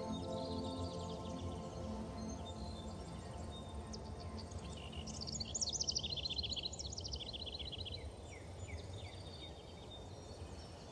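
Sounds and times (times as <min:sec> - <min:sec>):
bird chirping: 0:00.0 - 0:10.9.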